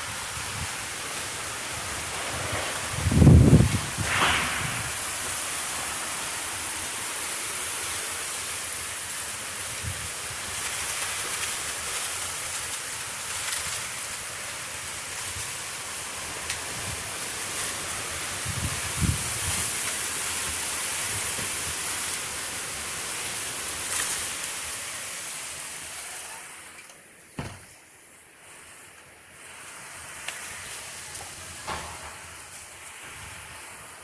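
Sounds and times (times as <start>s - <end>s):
heavy rain hissing: 0.0s - 34.0s.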